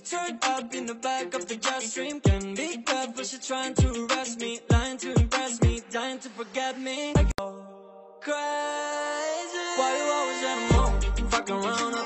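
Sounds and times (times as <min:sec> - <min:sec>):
hip-hop music through a speaker: 0:00.0 - 0:07.5, 0:08.3 - 0:12.0.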